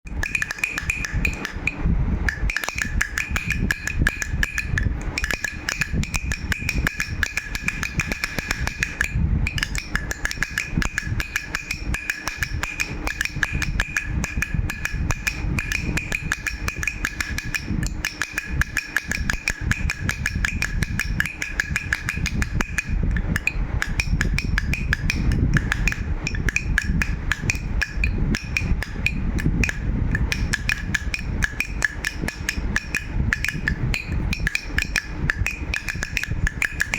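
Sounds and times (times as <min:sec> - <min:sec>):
steady ringing tone: 0:00.1 - 0:36.9
toy rattle shaken rapidly: 0:00.1 - 0:36.9.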